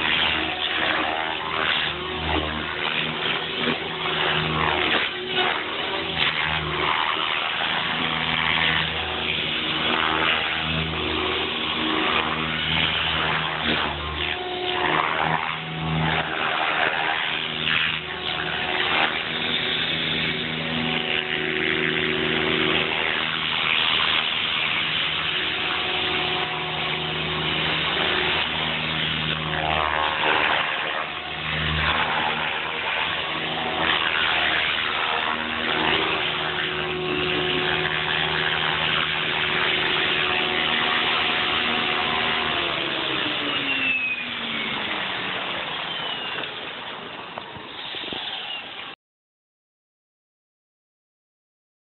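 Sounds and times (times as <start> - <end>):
model helicopter rotor whine: 0.0 - 49.0.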